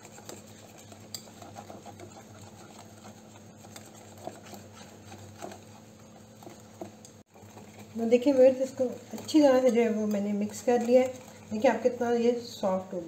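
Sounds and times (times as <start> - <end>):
wet batter slapping: 0.0 - 12.6
whisk ticking against bowl: 0.0 - 13.0.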